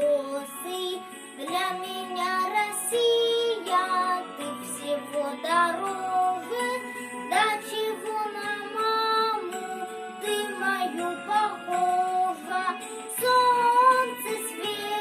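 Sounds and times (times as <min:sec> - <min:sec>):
child singing: 0:00.0 - 0:15.0
instrumental backing music: 0:00.0 - 0:15.0.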